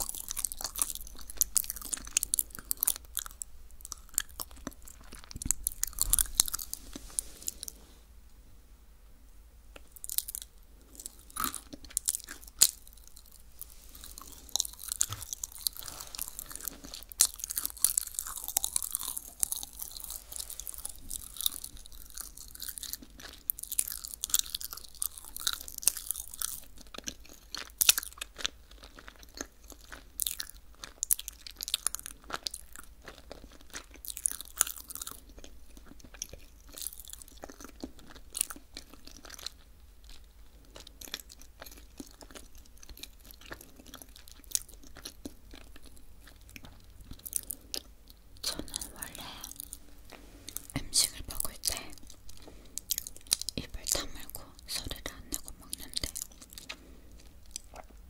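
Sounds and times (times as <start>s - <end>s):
crunchy dried fruit chewing: 0.0s - 7.9s, 9.8s - 58.0s.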